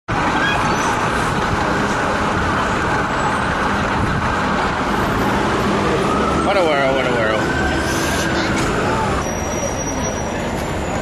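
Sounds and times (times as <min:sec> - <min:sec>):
cars and bus passing: 0:00.1 - 0:11.0
city street traffic: 0:00.1 - 0:11.0.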